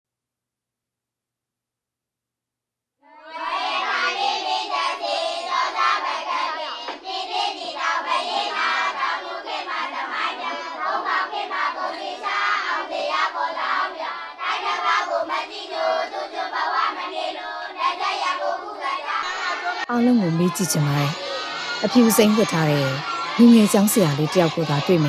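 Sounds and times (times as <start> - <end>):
children chanting in unison: 3.0 - 19.9, 20.6 - 24.8.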